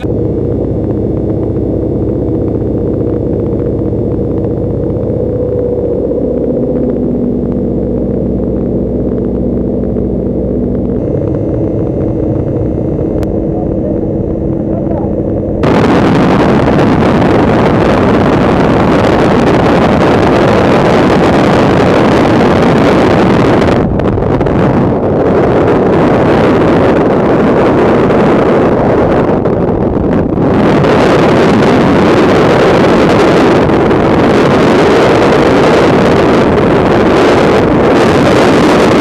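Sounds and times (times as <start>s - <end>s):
aircraft piston engine droning: 0.0s - 39.0s.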